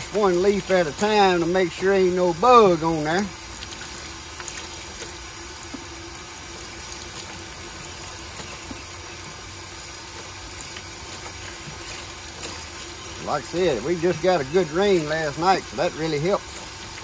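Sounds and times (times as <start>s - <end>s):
leaves being rinsed: 0.0s - 17.0s
tap water running into sink: 0.0s - 17.0s.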